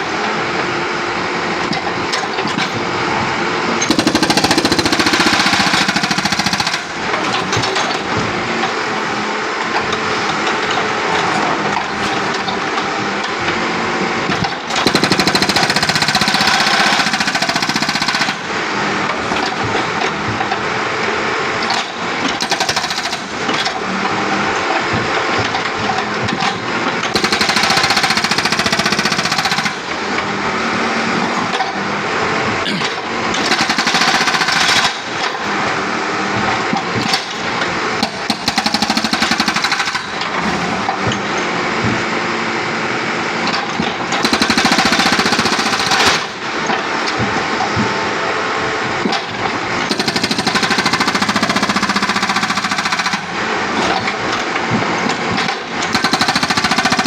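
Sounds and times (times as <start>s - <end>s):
backhoe engine running: 0.0s - 57.0s
hydraulic breaker hammering concrete: 0.0s - 57.0s.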